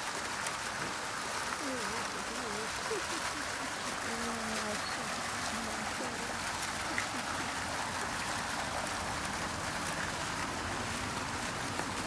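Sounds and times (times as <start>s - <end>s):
fountain splashing into pool: 0.0s - 12.0s.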